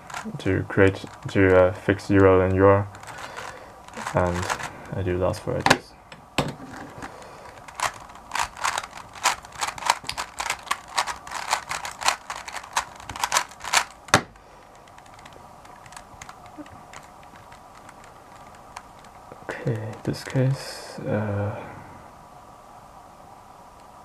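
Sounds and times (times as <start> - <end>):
puzzle cube plastic clicks: 0.0 - 5.6, 6.7 - 20.4
faint room hum: 0.0 - 24.0.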